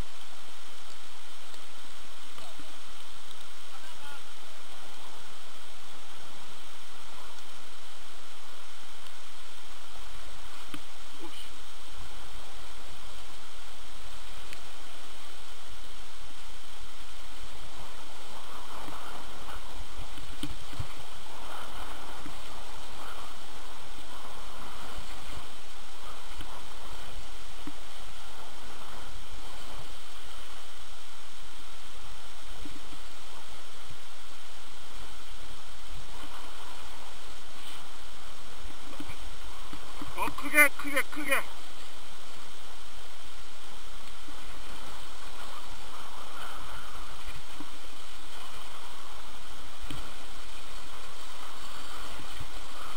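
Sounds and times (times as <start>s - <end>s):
wind on microphone: 0.0s - 40.3s, 41.3s - 52.9s
skis scraping over snow: 0.0s - 52.9s.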